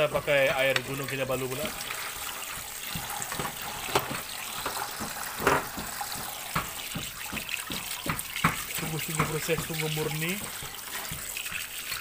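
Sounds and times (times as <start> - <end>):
tap water splashing into colander: 0.0 - 12.0.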